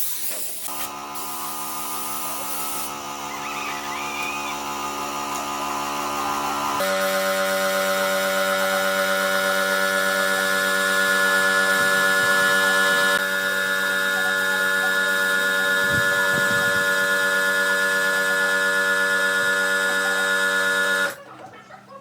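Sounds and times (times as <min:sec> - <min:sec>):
electric air compressor motor hum: 0:00.0 - 0:21.2.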